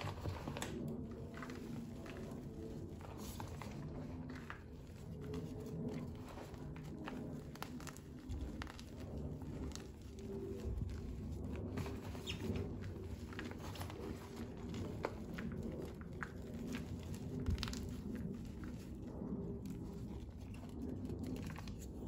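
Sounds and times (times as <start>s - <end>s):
small crackles: 0.0s - 22.0s.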